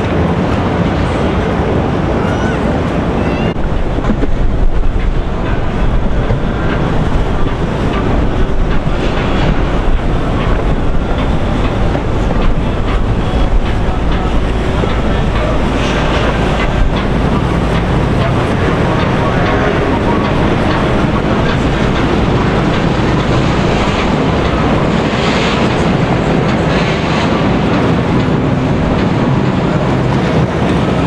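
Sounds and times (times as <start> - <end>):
motorboat running: 0.0 - 31.0
water rushing: 0.0 - 31.0
wind buffeting microphone: 0.0 - 31.0.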